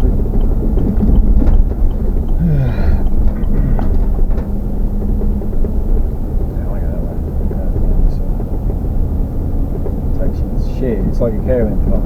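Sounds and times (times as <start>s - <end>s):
engine hum: 0.0s - 12.0s
wind buffeting microphone: 0.0s - 12.0s.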